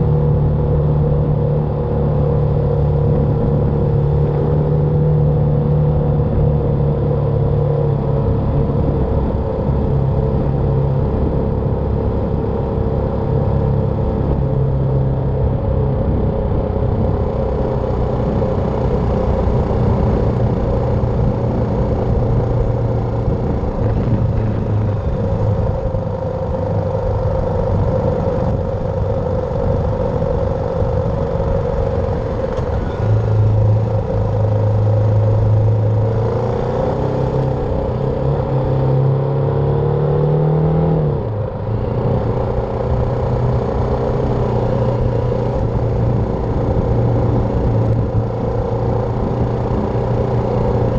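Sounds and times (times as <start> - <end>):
motorcycle engine running: 0.0 - 39.1, 41.3 - 50.9.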